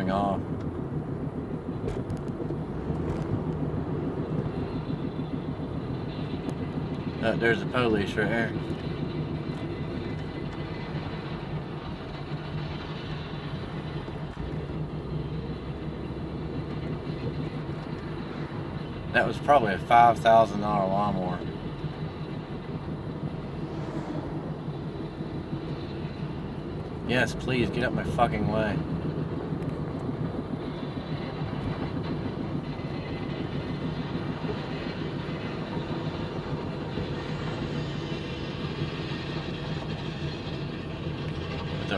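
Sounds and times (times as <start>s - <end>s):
car driving at highway speed: 0.0s - 41.9s.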